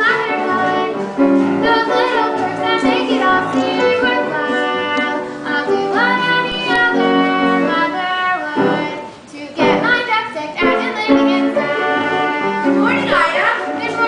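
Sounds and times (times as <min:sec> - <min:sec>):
instrumental accompaniment: 0:00.0 - 0:14.0
young voices singing: 0:00.0 - 0:14.0.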